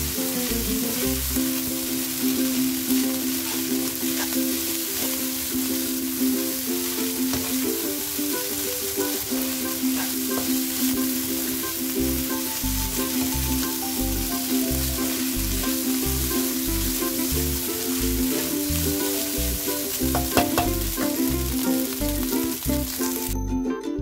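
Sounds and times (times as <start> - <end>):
rice sizzling in a wok: 0.0 - 23.4
spatula stirring in a wok: 2.1 - 22.0.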